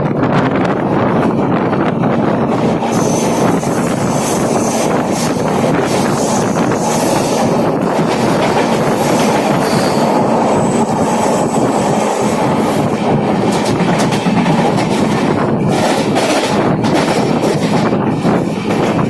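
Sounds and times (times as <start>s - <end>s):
clickety-clack of rail joints: 0.0s - 10.2s, 12.4s - 19.0s
train wheels rumbling on rails: 0.0s - 19.0s.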